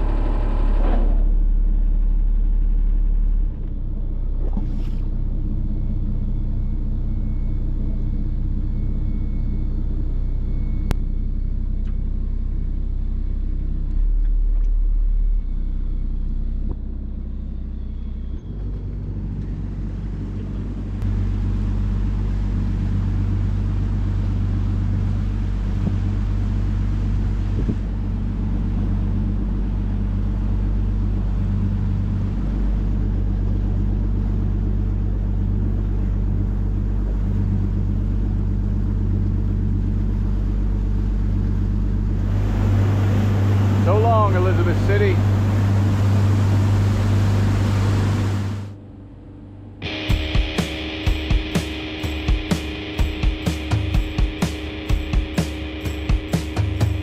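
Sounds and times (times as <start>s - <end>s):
boat diesel engine rumbling: 0.0s - 57.0s.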